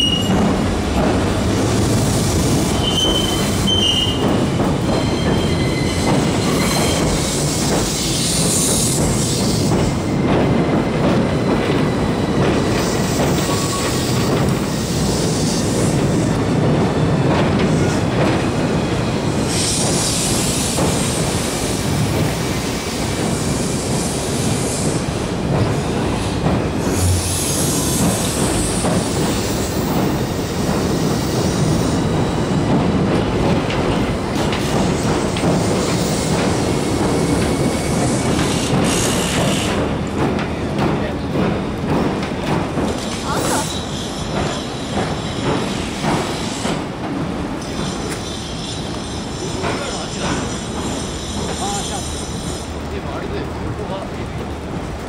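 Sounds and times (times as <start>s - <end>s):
train wheels rumbling on bridge: 0.0s - 55.0s.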